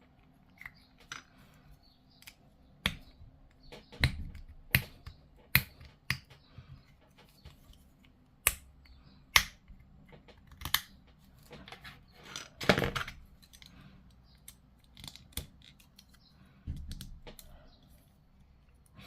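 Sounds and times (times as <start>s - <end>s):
plastic parts clicking together: 2.1s - 17.6s.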